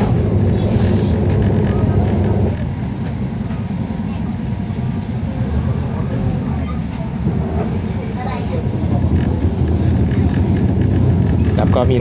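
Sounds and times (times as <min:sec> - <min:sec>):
passengers' voices: 0:00.0 - 0:12.0
train carriage rumble: 0:00.0 - 0:12.0.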